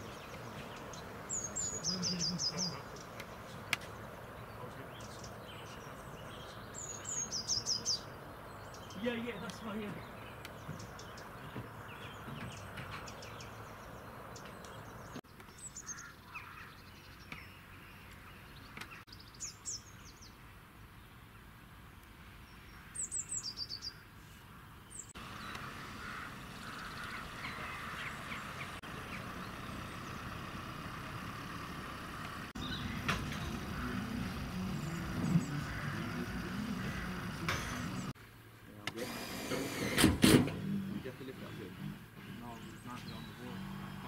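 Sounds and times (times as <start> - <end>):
small birds chirping: 0.0 - 38.8, 40.6 - 44.0
outdoor ambience hiss: 0.0 - 44.0.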